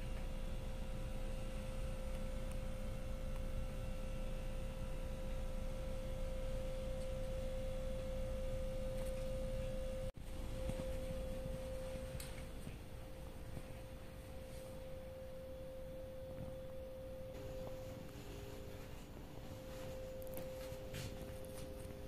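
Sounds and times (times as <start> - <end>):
steady single-pitched tone: 0.0 - 22.0.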